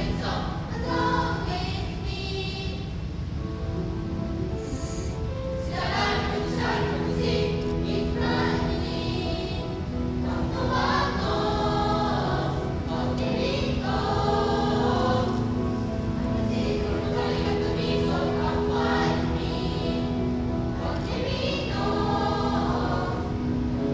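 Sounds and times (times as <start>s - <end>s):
choir singing held notes: 0.0s - 23.9s.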